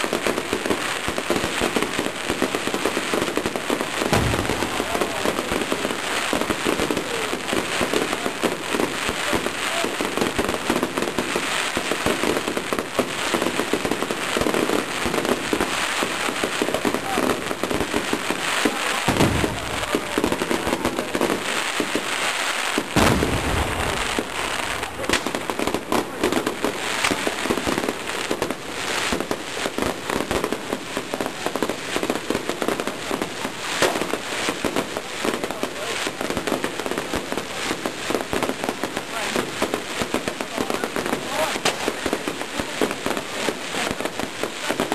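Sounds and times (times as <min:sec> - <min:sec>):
fireworks crackling: 0:00.0 - 0:44.9
loud firework reports: 0:00.0 - 0:44.9.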